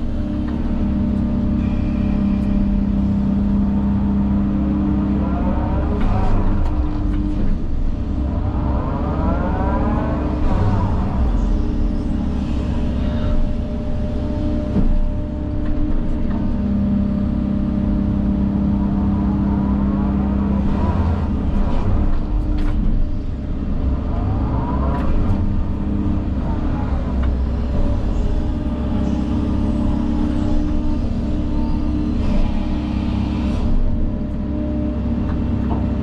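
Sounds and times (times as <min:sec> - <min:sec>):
earth-moving machine engine whining: 0:00.0 - 0:36.0.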